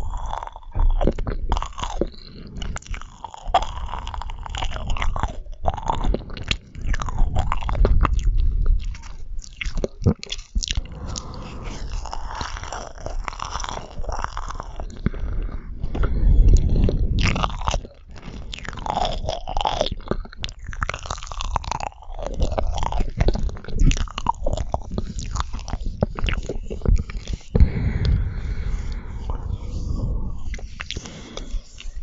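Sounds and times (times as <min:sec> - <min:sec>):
person chewing marshmallows: 0:00.0 - 0:32.0.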